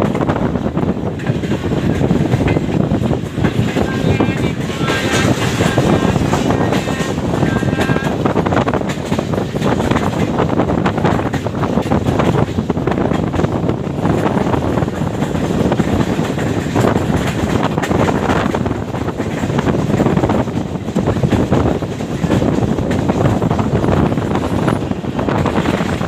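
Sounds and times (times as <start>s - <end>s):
train wheels rumbling on rail: 0.0s - 26.0s
wind buffeting microphone: 0.0s - 26.0s.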